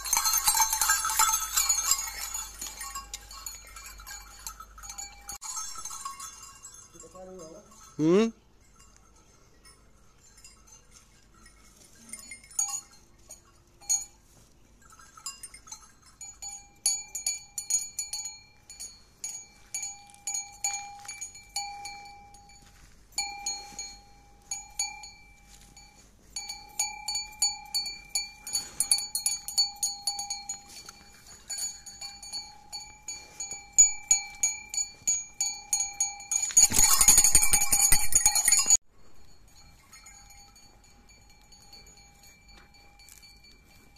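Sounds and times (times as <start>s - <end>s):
brass bells clanging: 0.0s - 14.2s, 14.8s - 43.9s.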